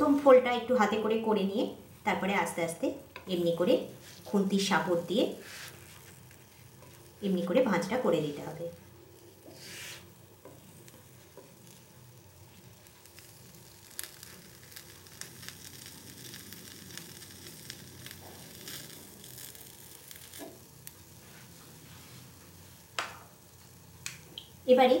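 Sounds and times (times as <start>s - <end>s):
crepe sizzling on griddle: 3.1s - 24.9s
small crackles: 3.2s - 24.7s.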